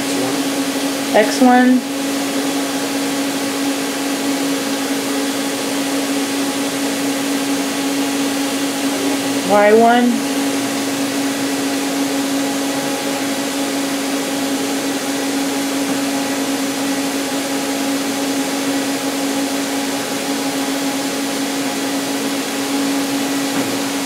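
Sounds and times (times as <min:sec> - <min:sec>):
lathe machine hum: 0:00.0 - 0:24.0.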